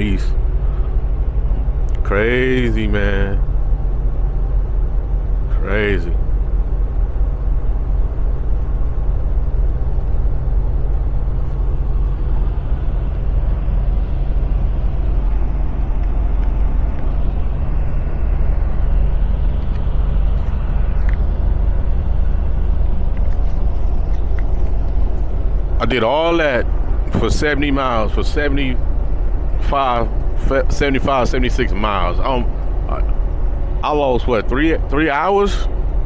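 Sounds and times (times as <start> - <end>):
diesel engine drone: 0.0 - 36.0.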